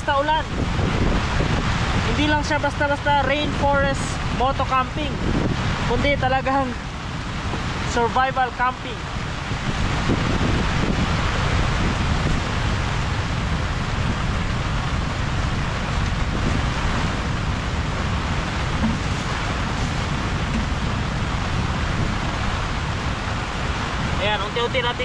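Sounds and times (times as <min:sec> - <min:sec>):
heavy rain: 0:00.0 - 0:25.0
strong wind rumbling on microphone: 0:00.0 - 0:25.0.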